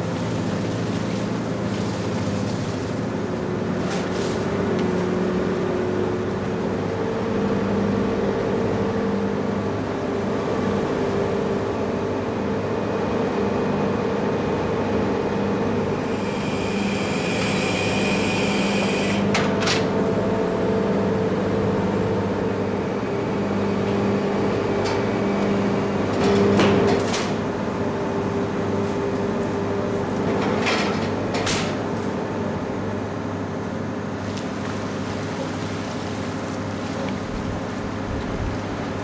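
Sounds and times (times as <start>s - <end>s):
boat machinery droning: 0.0s - 39.0s.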